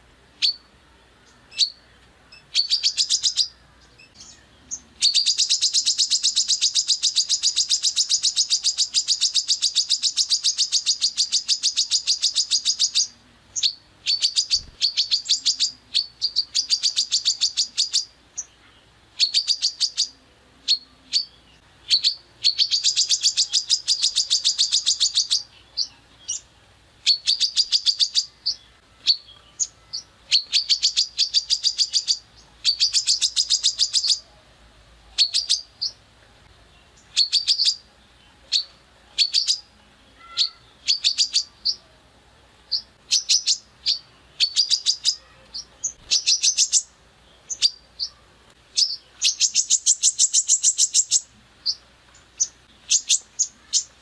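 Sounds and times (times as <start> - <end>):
songbird rapid rattling song: 0.0 - 34.3, 35.0 - 54.0.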